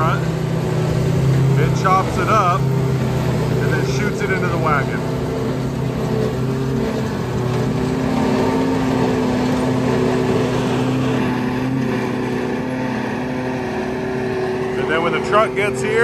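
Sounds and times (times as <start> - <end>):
tractor and forage chopper running: 0.0 - 16.0.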